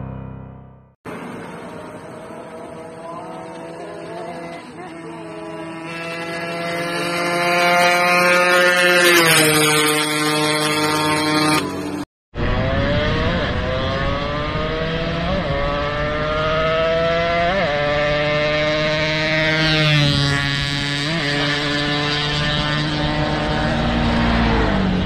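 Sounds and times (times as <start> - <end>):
two-stroke motorcycle engine: 1.1 - 25.0.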